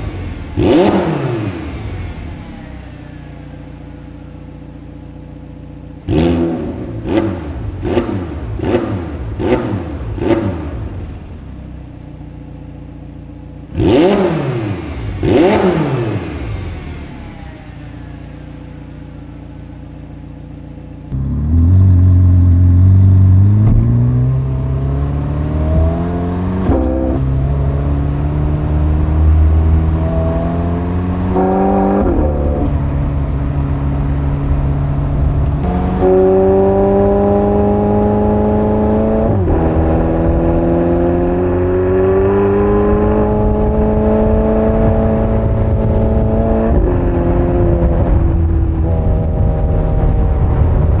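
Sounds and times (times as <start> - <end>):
sports car engine revving: 0.0 - 51.0.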